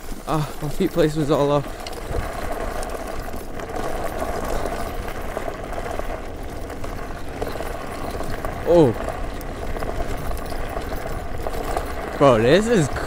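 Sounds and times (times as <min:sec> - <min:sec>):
scooter rattling over bumps: 0:00.0 - 0:13.0
scooter tyres rumbling on dirt: 0:00.0 - 0:13.0.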